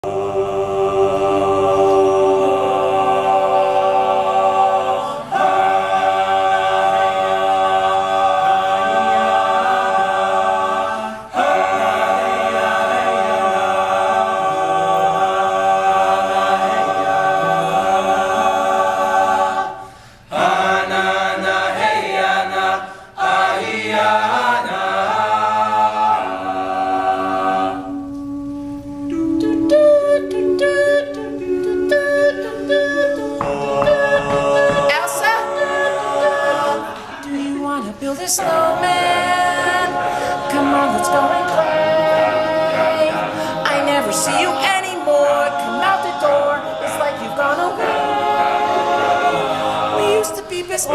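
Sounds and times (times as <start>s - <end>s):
male a cappella group singing: 0.0s - 50.9s.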